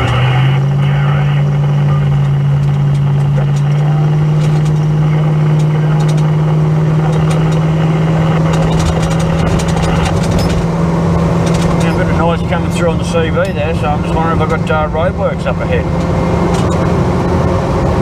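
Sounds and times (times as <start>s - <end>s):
car engine drone: 0.0s - 18.0s
road noise inside car: 0.0s - 18.0s.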